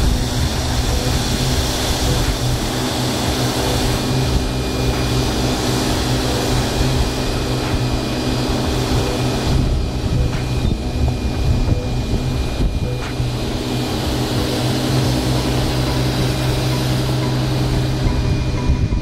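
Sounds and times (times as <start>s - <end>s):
fire pump engine humming: 0.0s - 19.0s
hose jet rushing on fire: 0.0s - 19.0s.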